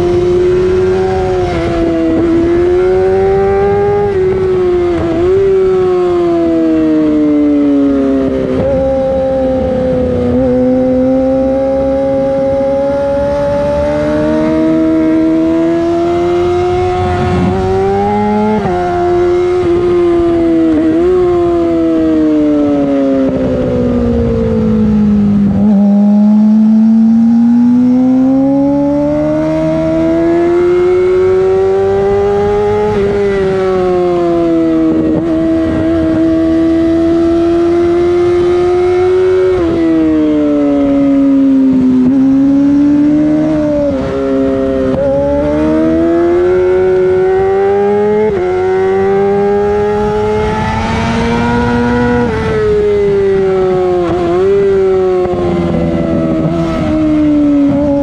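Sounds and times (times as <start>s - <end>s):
motorcycle engine at high revs: 0.0s - 58.0s.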